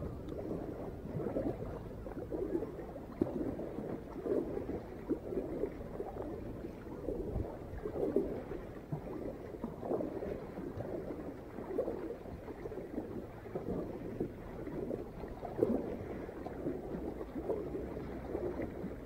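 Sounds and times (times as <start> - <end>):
paddle splashes: 0.0 - 19.0
water gurgling around kayak hull: 0.0 - 19.0.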